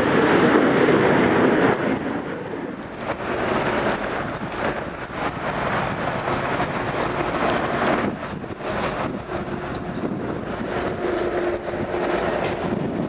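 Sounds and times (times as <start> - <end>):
jet airliner roar: 0.0 - 13.0
steady rushing noise: 0.0 - 13.0
wind buffeting microphone: 0.0 - 13.0.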